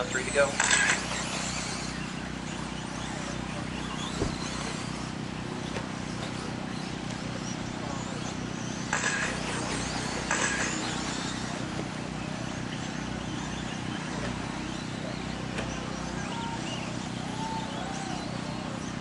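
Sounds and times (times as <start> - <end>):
electric toy truck motors whining: 0.0 - 19.0
steady background noise: 0.0 - 19.0.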